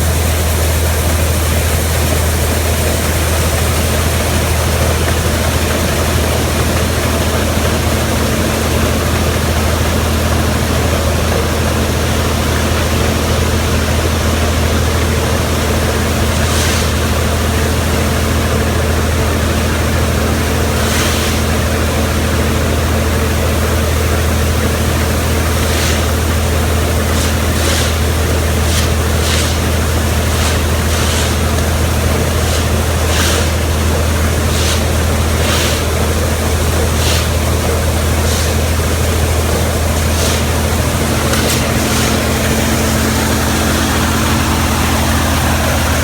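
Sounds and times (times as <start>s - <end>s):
diesel farm machine drone: 0.0s - 46.0s.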